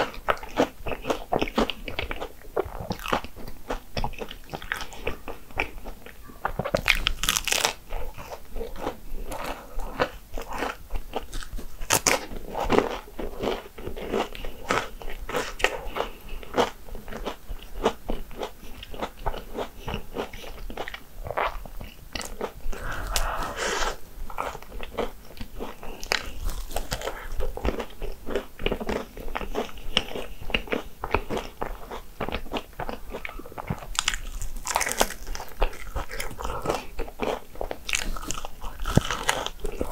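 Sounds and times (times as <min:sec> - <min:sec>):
crisp crunching and chewing: 0:00.0 - 0:23.5, 0:24.3 - 0:39.9.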